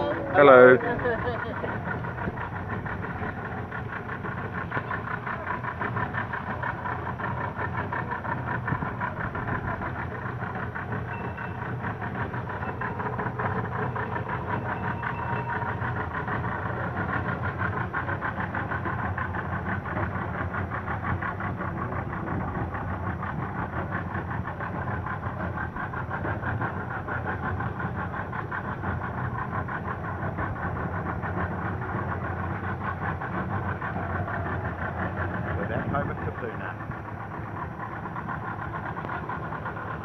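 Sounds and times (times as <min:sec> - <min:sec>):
outboard motor droning: 0:00.0 - 0:40.0.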